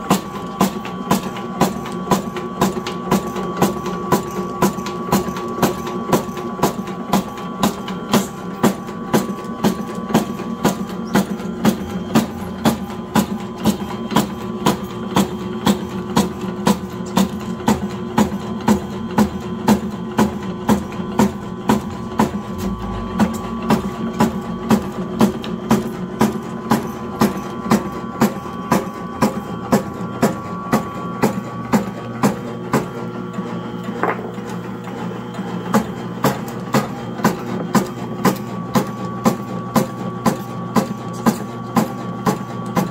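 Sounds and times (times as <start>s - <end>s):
herb slicing machine chopping: 0.0s - 42.9s.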